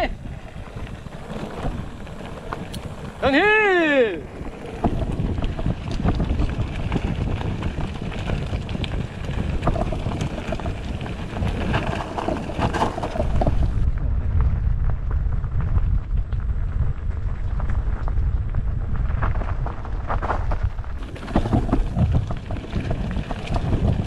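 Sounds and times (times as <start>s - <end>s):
stones and bike rattling: 0.0s - 24.0s
tyres rumbling on gravel trail: 0.0s - 24.0s
wind buffeting microphone: 0.0s - 24.0s.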